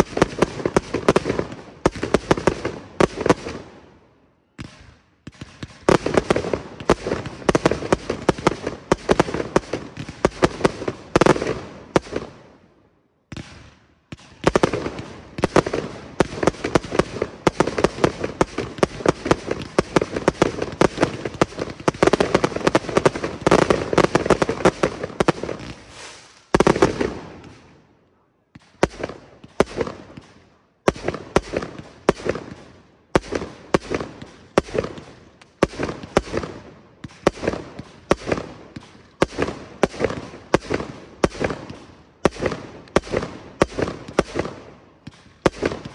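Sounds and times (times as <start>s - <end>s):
fireworks launching and bursting: 0.0s - 27.9s, 28.5s - 45.9s.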